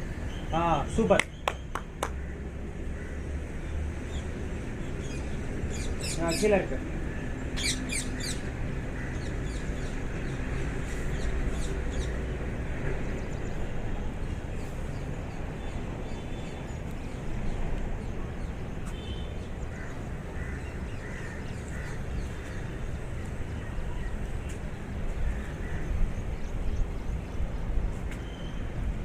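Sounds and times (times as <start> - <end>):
birds chirping: 0.1 - 28.8.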